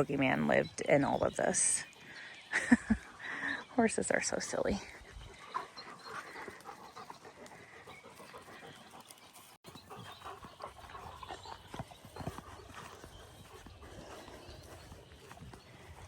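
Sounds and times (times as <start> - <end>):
animal panting: 0.0 - 16.0.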